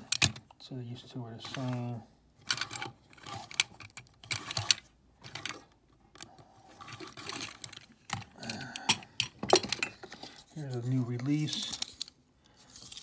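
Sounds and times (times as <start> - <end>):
metal toy trucks clicking and rattling: 2.4 - 13.0.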